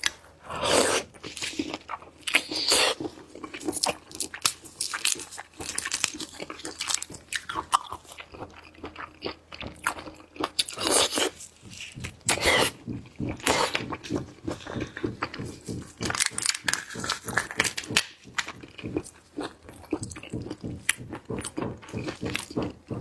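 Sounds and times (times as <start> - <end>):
crunching and chewing food: 0.0 - 23.0.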